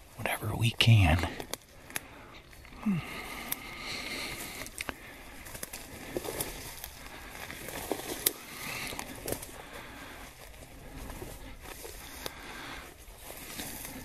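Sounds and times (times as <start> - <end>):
footsteps through dry grass: 0.0 - 14.0
twigs snapping: 1.3 - 12.7.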